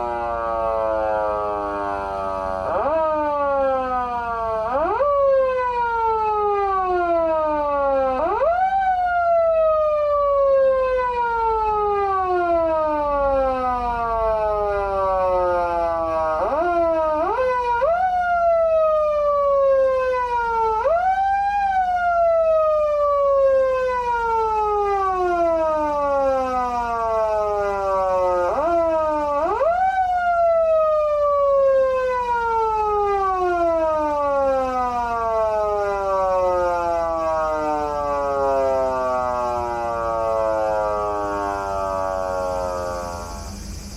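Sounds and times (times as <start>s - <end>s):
electronic siren sweeping up and down: 0.0s - 43.9s.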